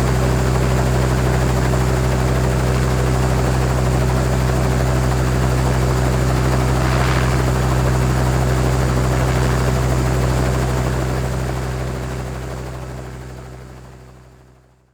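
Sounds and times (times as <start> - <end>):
helicopter idling: 0.0 - 14.2.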